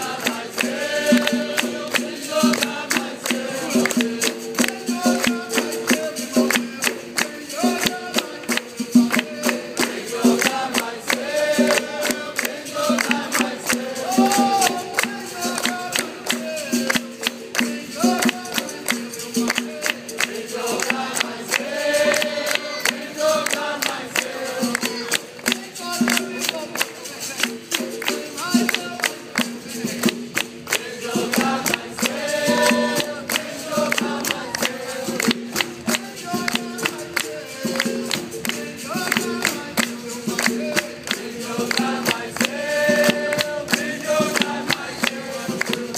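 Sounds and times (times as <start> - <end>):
group singing: 0.0 - 26.8, 27.8 - 45.9
hand drum rhythm: 0.0 - 45.9
hand-clapping: 0.0 - 45.9.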